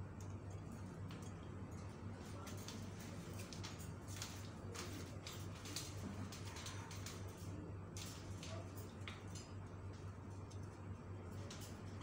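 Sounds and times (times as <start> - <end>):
steady low hum: 0.0 - 12.0
parakeets clicking on wire cage: 0.1 - 12.0.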